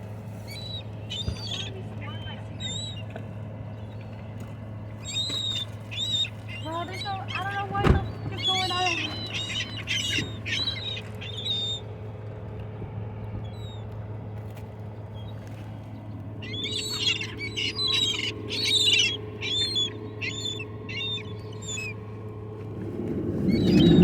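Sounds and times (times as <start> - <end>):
steady low hum: 0.0 - 24.0
seagulls calling and squawking: 0.2 - 12.2, 13.2 - 14.0, 15.0 - 22.6, 23.2 - 24.0.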